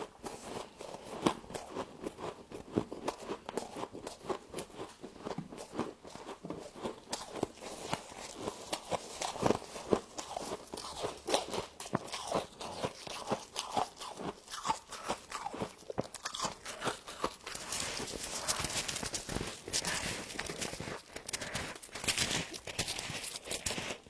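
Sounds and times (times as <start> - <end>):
frost crunching when chewed: 0.0 - 24.0.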